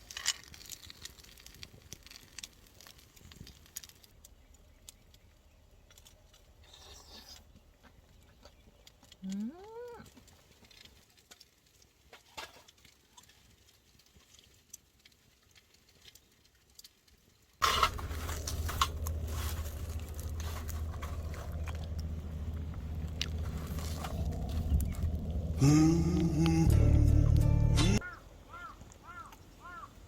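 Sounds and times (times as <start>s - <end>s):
quiet chewing with clicks: 0.0s - 25.6s
low rumble with crackling: 0.0s - 28.1s.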